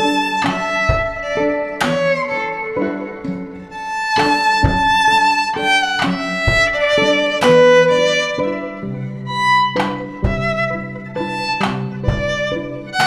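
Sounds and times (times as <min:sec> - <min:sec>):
drum kit hits: 0:00.0 - 0:03.5, 0:04.1 - 0:13.0
violin melody: 0:00.0 - 0:13.0.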